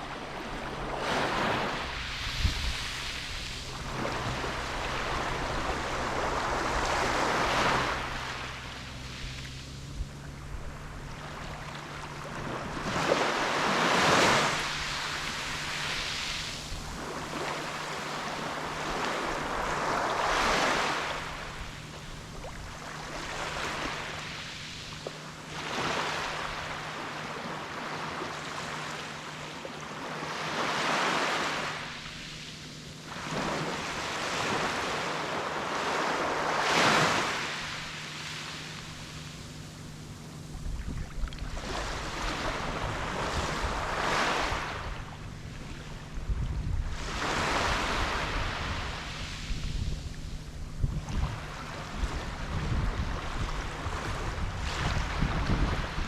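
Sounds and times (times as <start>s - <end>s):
small sea waves breaking: 0.0s - 56.0s.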